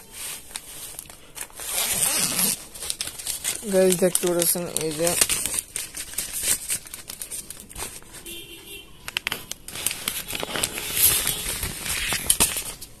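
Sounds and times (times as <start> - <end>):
plastic packaging crinkling: 0.0 - 8.4, 9.0 - 13.0.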